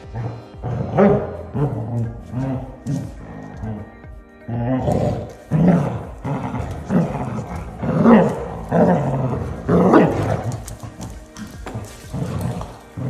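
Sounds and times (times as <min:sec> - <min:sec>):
dogs growling in play: 0:00.0 - 0:13.0.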